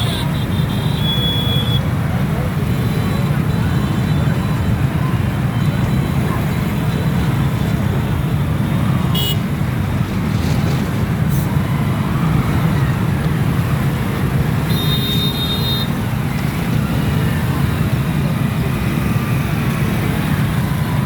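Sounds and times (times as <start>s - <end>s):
traffic engines rumbling: 0.0s - 21.0s.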